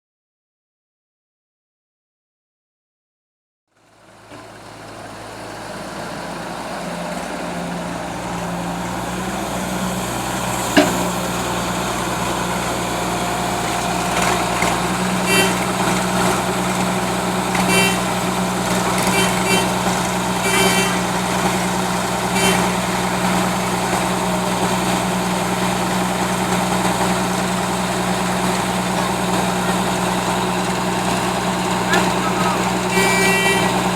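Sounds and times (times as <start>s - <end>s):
excavator diesel engine running: 3.8s - 33.9s.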